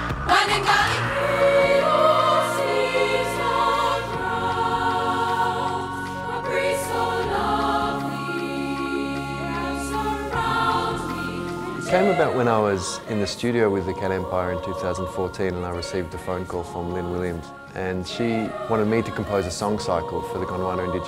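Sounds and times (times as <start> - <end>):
low accompaniment: 0.0 - 21.0
girls' choir singing: 0.3 - 21.0.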